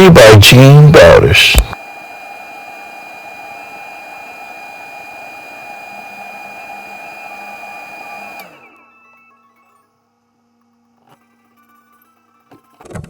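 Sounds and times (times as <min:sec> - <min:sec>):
small fan whining: 0:01.0 - 0:12.5.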